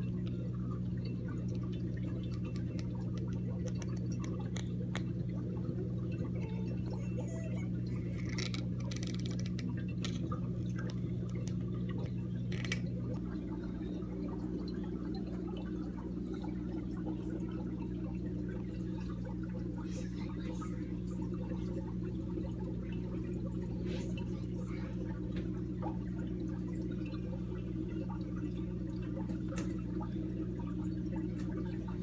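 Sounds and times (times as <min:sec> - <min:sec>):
aquarium filter bubbling: 0:00.0 - 0:32.0
low hum: 0:00.0 - 0:32.0.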